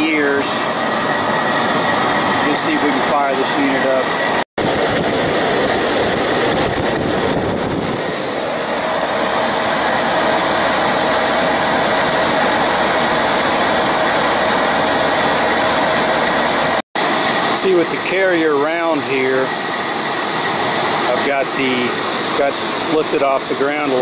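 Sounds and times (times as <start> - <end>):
air conditioner unit running: 0.0 - 24.0.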